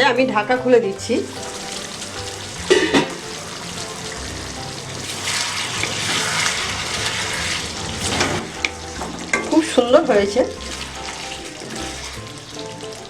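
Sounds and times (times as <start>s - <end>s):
background music: 0.0s - 13.0s
food bubbling and sizzling in a pan: 1.0s - 13.0s
utensil clatter: 1.3s - 13.0s.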